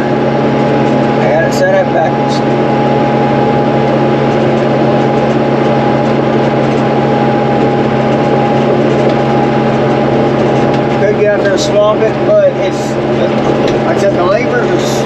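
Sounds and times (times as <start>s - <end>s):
baler whine: 0.0s - 15.0s
tractor engine running under load: 0.0s - 15.0s.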